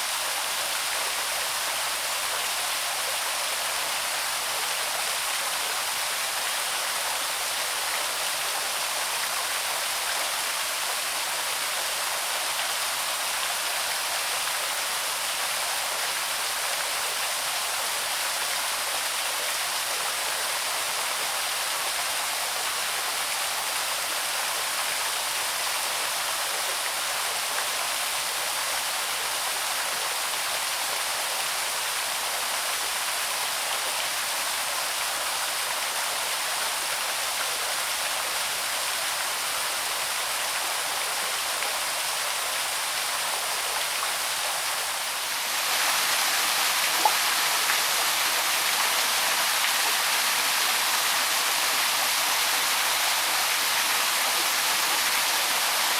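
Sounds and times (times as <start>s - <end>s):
small waterfall pouring: 0.0s - 55.9s.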